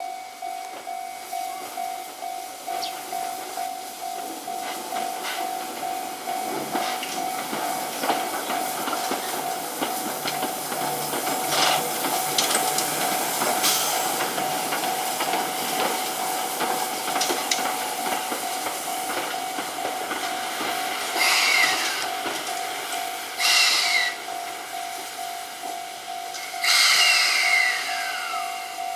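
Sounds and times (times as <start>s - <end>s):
steam locomotive hissing: 0.0s - 28.9s.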